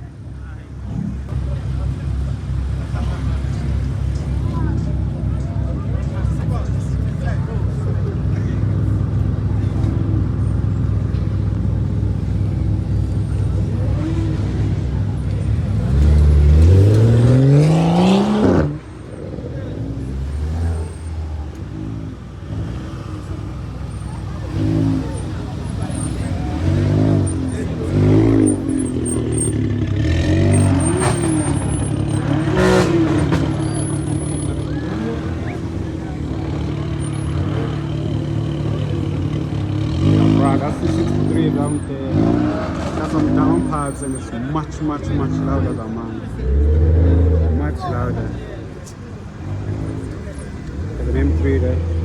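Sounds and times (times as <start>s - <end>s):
car engine accelerating hard: 0.0s - 52.0s.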